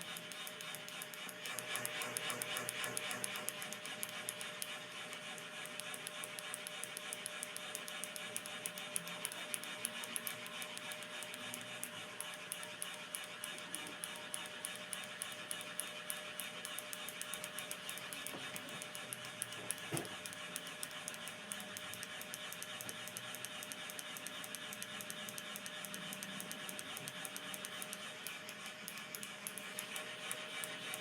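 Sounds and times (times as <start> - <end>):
fan ticking: 0.0 - 31.0.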